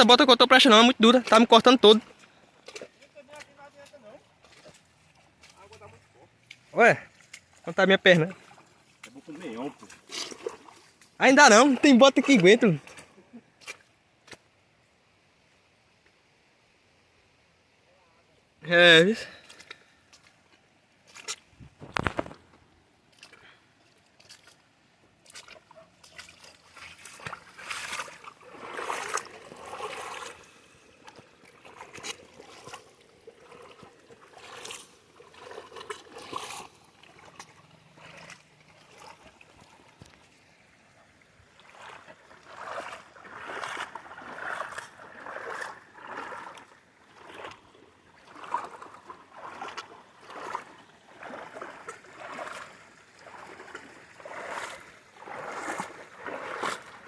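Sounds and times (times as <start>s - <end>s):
boots sloshing through floodwater: 0.0s - 14.4s, 19.0s - 57.0s.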